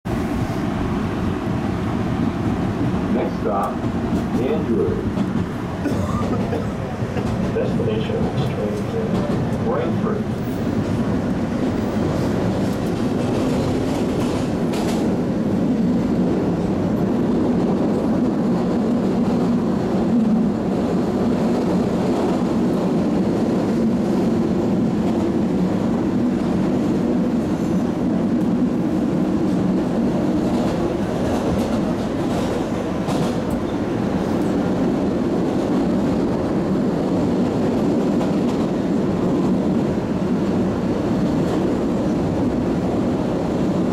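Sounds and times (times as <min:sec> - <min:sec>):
subway wheels rumbling on rail: 0:00.0 - 0:43.9.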